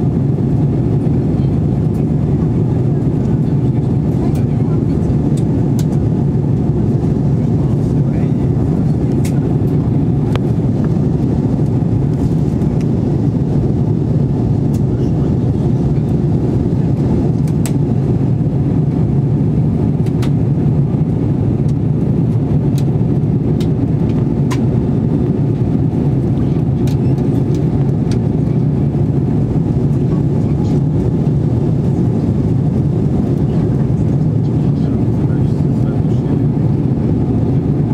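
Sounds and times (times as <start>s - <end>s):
airliner cabin engine roar: 0.0s - 37.9s.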